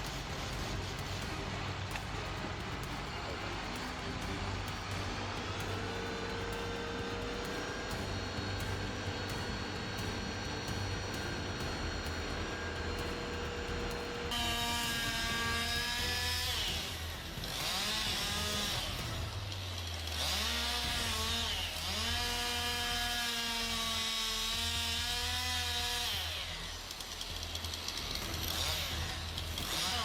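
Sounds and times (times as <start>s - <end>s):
chainsaw running at high revs: 0.0s - 30.0s.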